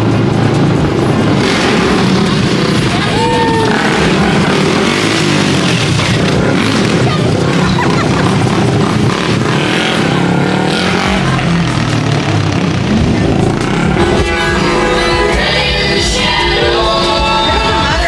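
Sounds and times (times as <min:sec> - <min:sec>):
people's voices: 0:00.0 - 0:18.0
quad engines revving: 0:00.0 - 0:18.0.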